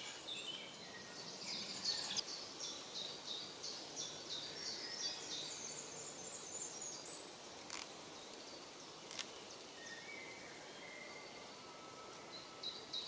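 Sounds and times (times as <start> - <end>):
faint woodland ambience: 0.0 - 13.0
songbird singing: 0.0 - 13.0.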